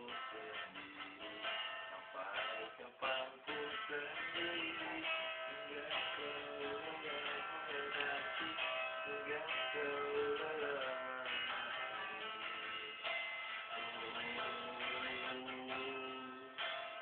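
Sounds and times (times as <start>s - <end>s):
bending guitar melody: 0.0s - 17.0s
strummed guitar chords: 0.0s - 17.0s.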